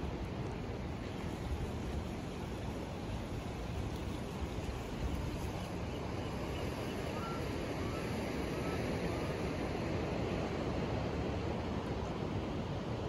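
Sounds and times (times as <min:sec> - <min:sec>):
ocean surf washing ashore: 0:00.0 - 0:13.0
wind rumbling on microphone: 0:00.0 - 0:13.0.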